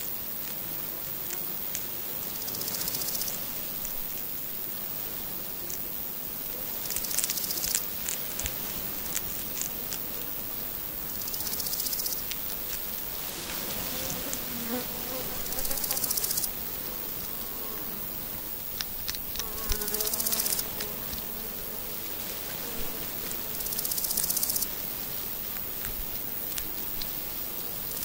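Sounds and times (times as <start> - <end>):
insect buzzing: 0.0 - 28.0.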